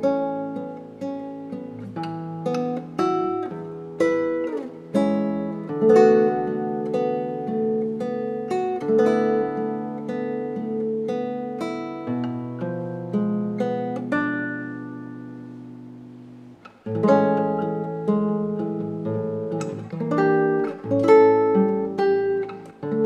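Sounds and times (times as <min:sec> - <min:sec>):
classical guitar fingerpicking: 0:00.0 - 0:23.0
guitar chord strum: 0:00.0 - 0:23.0.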